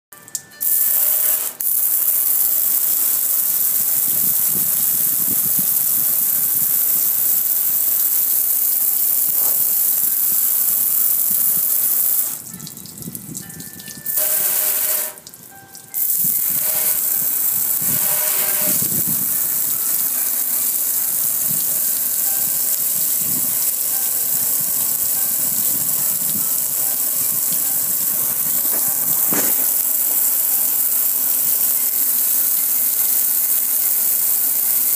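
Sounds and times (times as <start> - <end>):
hose water spraying on grill: 0.4 - 34.9.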